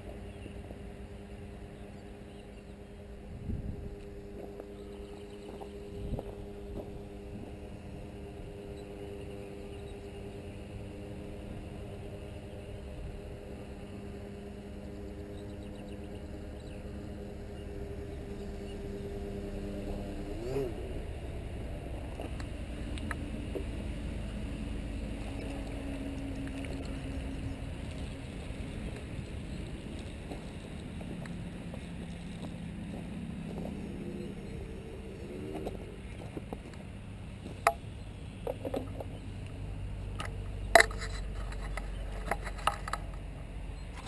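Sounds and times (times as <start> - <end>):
low rumble: 0.0 - 44.0
model airboat motor humming: 0.0 - 44.0.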